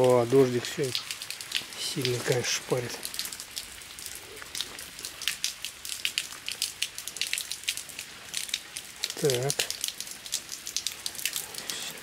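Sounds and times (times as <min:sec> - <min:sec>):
heavy rain pouring: 0:00.0 - 0:12.0
sharp rain drop hits: 0:00.0 - 0:12.0.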